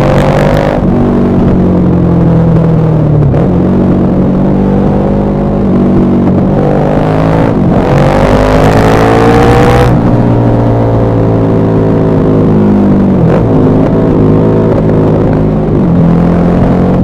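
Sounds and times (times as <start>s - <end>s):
loud motorcycle engine: 0.0s - 17.0s.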